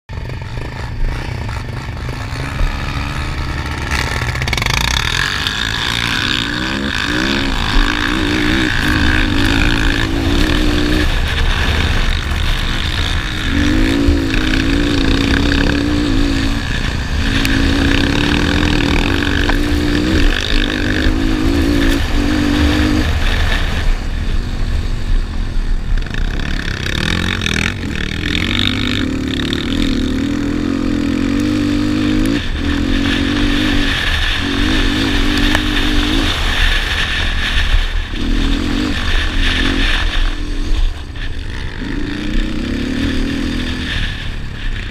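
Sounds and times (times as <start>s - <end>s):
quad engine revving through gears: 0.1s - 24.0s, 25.9s - 44.9s
wind rumble on microphone: 0.1s - 44.9s.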